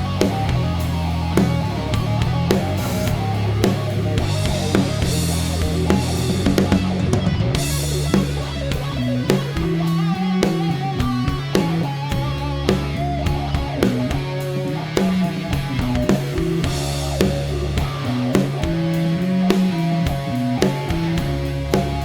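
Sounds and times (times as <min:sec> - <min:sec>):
bass guitar low notes: 0:00.0 - 0:22.0
drum kit steady beat: 0:00.0 - 0:22.0
electric guitar: 0:00.0 - 0:22.0.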